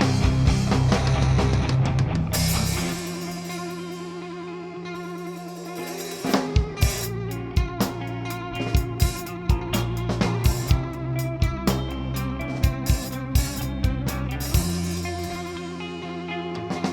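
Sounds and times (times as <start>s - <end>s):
drums: 0.0s - 16.9s
electric guitar with vibrato: 0.0s - 16.9s.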